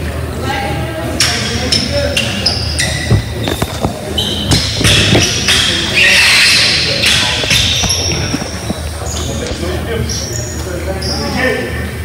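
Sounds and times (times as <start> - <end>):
voices in hall: 0.0 - 12.0
sneaker squeaks: 1.3 - 11.6.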